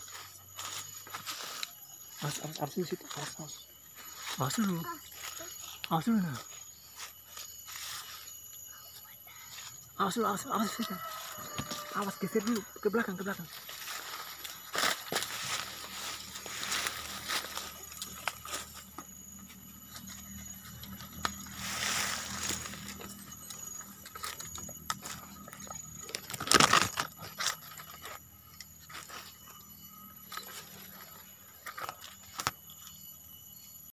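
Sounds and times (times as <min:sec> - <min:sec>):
footsteps on dry leaves: 0:00.0 - 0:08.4, 0:10.7 - 0:28.2, 0:28.8 - 0:32.6
faint high-pitched tones: 0:00.0 - 0:33.9.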